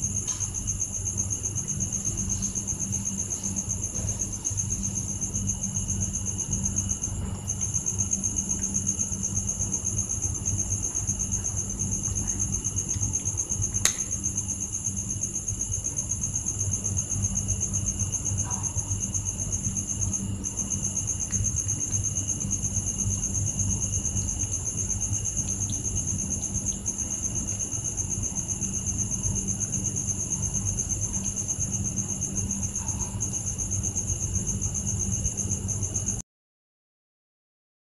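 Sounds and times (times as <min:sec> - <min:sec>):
crickets chirping: 0:00.0 - 0:36.2.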